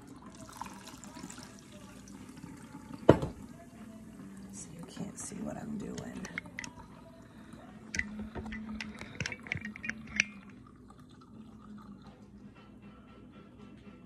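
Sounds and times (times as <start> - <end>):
liquid trickling into a pitcher: 0.0 - 12.5.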